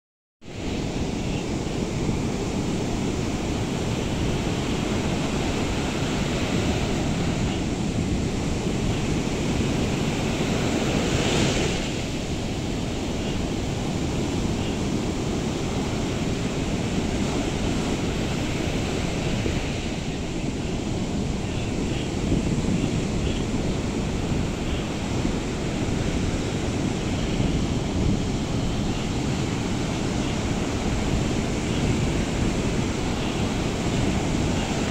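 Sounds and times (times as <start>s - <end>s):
ocean surf breaking: 0.4s - 34.9s.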